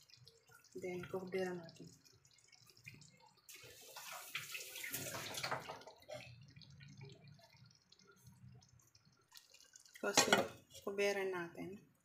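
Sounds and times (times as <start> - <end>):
broth bubbling: 0.0 - 10.8.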